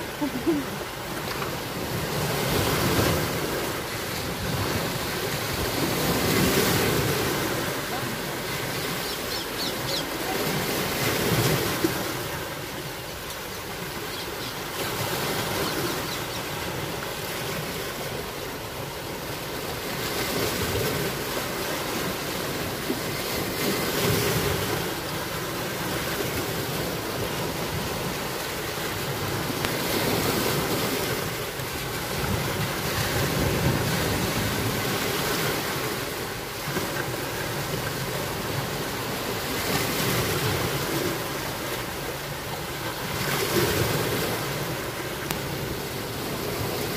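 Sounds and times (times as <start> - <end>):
sea waves washing onto shore: 0.0 - 46.9.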